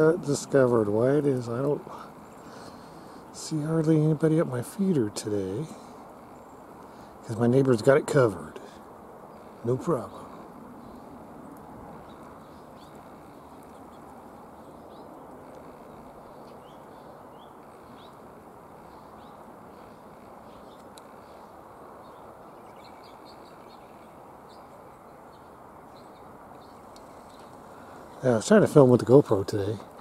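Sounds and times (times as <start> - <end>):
low outdoor hiss: 0.0 - 30.0
songbirds chirping: 0.0 - 30.0.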